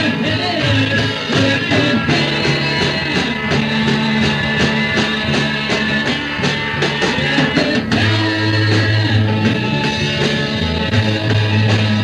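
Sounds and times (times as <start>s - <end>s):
electric guitar: 0.0s - 12.0s
sustained bass notes: 0.0s - 12.0s.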